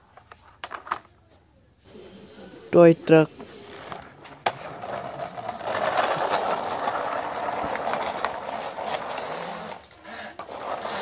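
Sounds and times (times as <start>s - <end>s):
toy truck wheels rolling on concrete: 0.0s - 11.0s.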